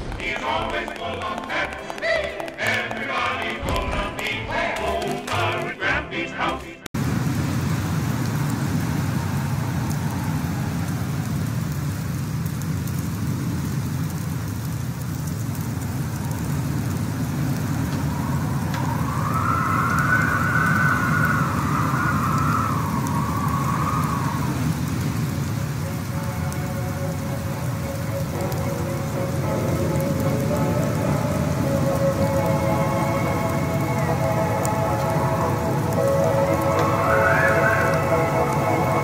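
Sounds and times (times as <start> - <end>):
car driving on snowy road: 7.0 - 39.0.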